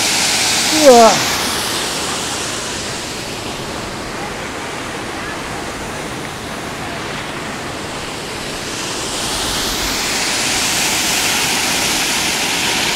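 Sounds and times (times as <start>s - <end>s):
waterfall rushing over rock: 0.0s - 12.9s.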